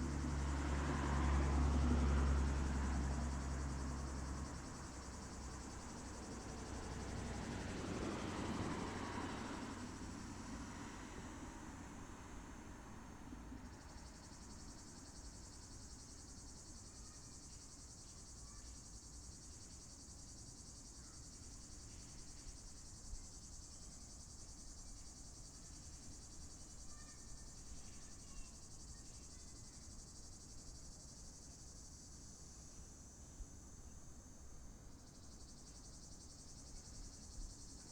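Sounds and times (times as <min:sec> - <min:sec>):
low outdoor background hum: 0:00.0 - 0:37.9.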